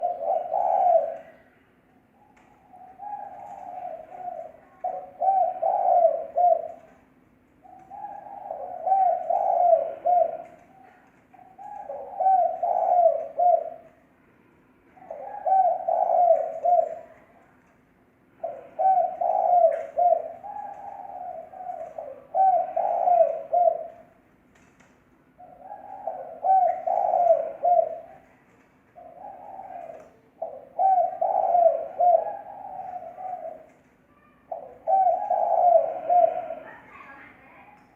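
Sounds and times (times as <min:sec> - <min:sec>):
dove cooing: 0:00.0 - 0:14.1, 0:14.9 - 0:17.6, 0:18.3 - 0:24.2, 0:25.3 - 0:37.9.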